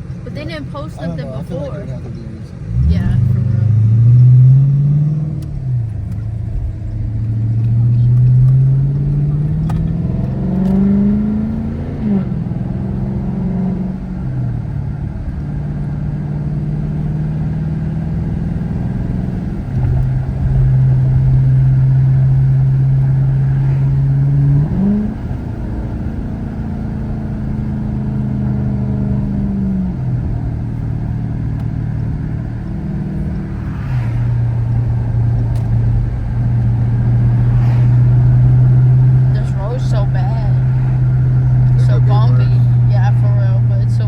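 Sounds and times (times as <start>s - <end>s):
car engine droning: 0.0s - 44.0s
road noise inside car: 0.0s - 44.0s.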